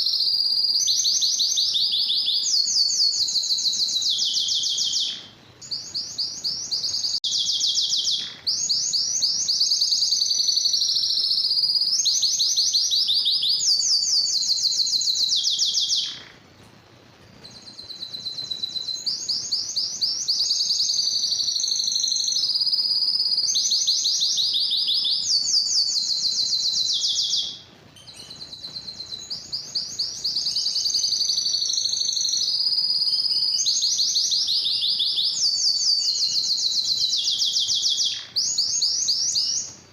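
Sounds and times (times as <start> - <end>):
canary singing trills: 0.0 - 16.6, 17.3 - 39.9.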